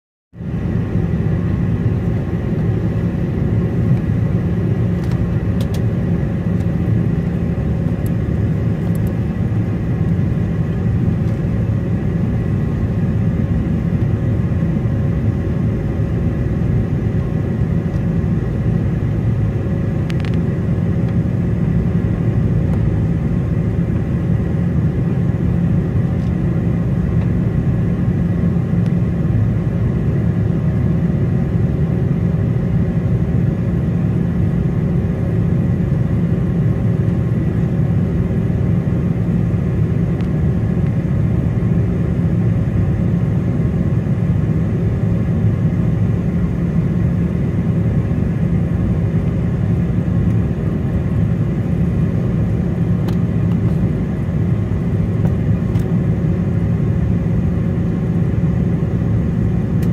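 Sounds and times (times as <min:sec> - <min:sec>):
airplane engine rumble: 0:00.4 - 0:59.9.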